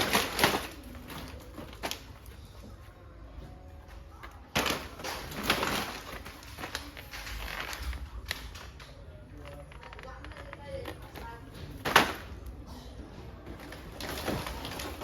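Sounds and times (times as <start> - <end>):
small objects rustling and clattering: 0.0 - 15.0.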